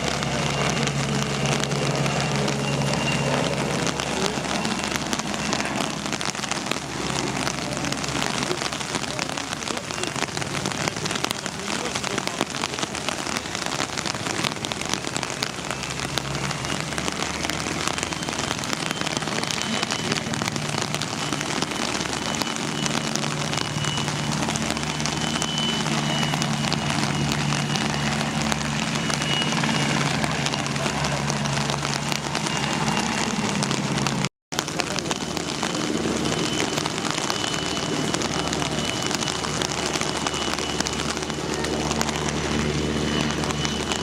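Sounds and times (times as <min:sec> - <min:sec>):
helicopter engines and rotor hum: 0:00.0 - 0:12.7, 0:16.1 - 0:44.0
steady rain: 0:00.0 - 0:44.0.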